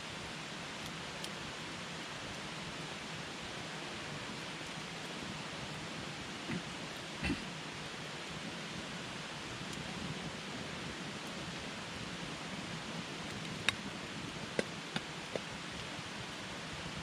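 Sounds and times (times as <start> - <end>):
burning wood crackles: 0.0 - 17.0
campfire hissing: 0.0 - 17.0.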